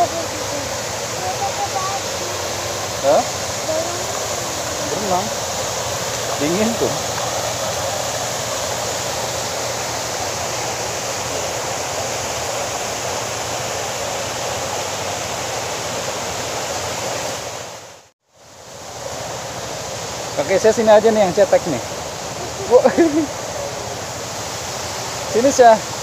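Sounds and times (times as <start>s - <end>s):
pebbly stream flowing: 0.0s - 26.0s
waterfall rushing: 0.0s - 26.0s.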